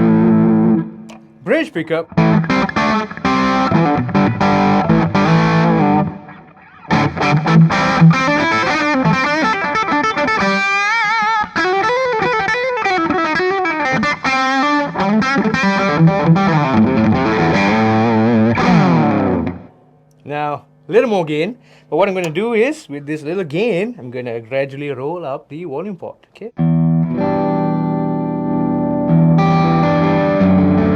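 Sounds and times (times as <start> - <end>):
overdriven electric guitar: 0.0 - 20.8, 26.6 - 30.9.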